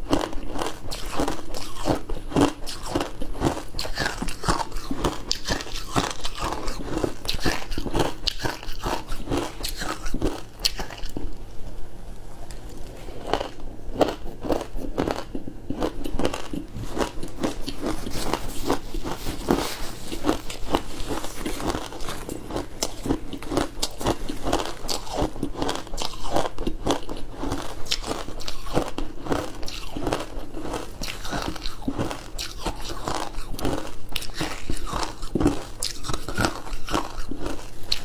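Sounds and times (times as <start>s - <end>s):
crunching and chewing frozen food: 0.0s - 11.6s, 12.4s - 38.0s.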